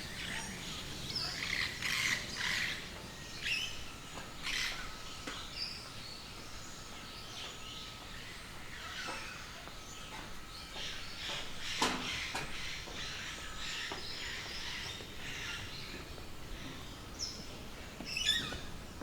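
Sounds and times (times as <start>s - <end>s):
birds chirping: 0.0s - 18.8s.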